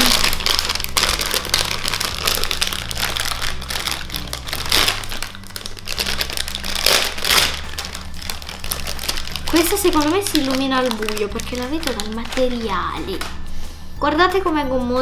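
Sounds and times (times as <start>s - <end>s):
foil packets crinkling: 0.0s - 13.5s.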